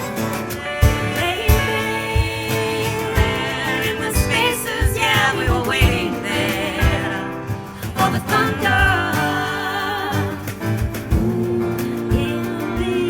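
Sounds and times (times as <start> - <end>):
live band music: 0.0 - 13.0
person singing: 0.0 - 13.0.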